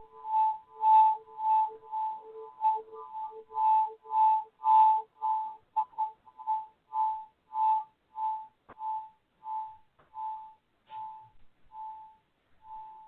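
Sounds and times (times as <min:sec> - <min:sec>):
crystal singing pyramid ringing: 0:00.0 - 0:13.0.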